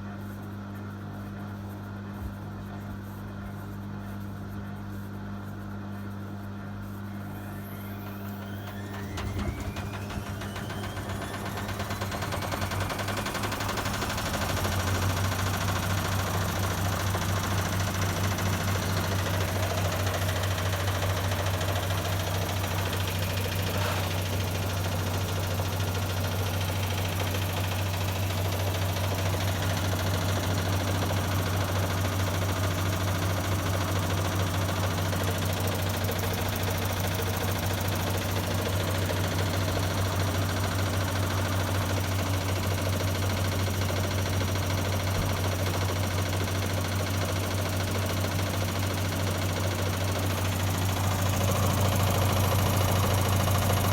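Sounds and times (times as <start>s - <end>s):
washing machine drum spinning: 7.9s - 53.9s.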